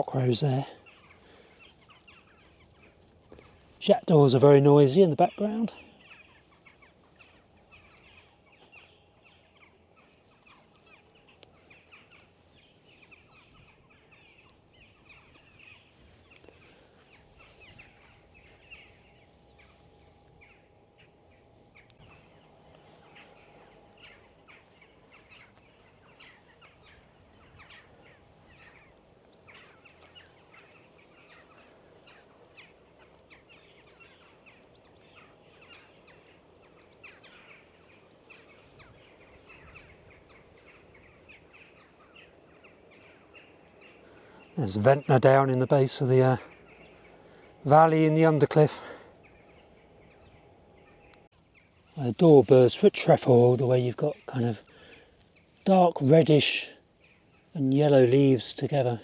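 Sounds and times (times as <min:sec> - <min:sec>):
distant jackdaws calling: 0:00.0 - 0:59.0
low wind rumble: 0:00.0 - 0:59.0.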